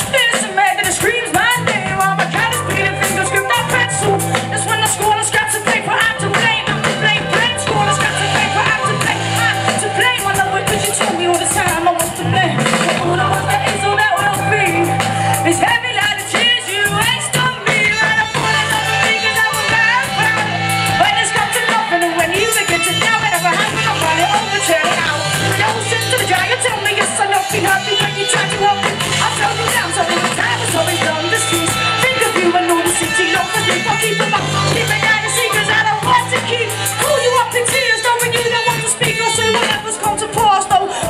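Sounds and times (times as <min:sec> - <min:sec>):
driving drum beat: 0:00.0 - 0:41.0
live band playing loudly: 0:00.0 - 0:41.0
person singing: 0:00.0 - 0:41.0
heavy bass line: 0:01.0 - 0:40.5.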